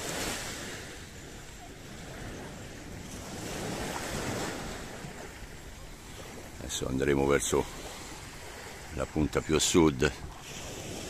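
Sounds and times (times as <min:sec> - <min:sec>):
small waves washing onto sand: 0:00.0 - 0:11.0
wind on microphone: 0:00.0 - 0:11.0.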